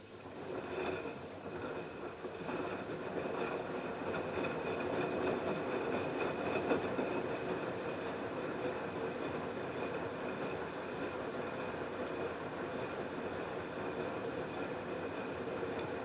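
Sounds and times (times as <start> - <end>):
washing machine running: 0.0 - 16.0.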